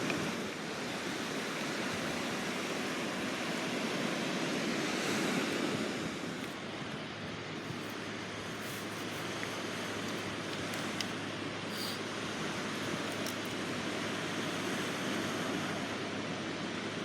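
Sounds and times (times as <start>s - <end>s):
sea waves washing ashore: 0.0s - 17.0s.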